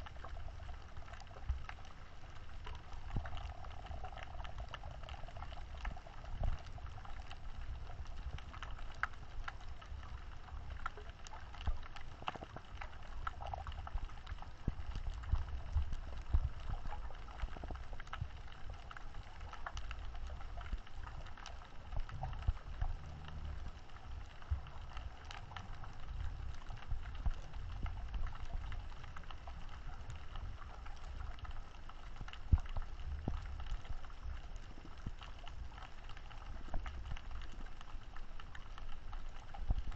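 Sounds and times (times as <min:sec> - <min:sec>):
muffled underwater rumble: 0:00.0 - 0:39.9
sharp clicks and crackles: 0:00.0 - 0:39.9.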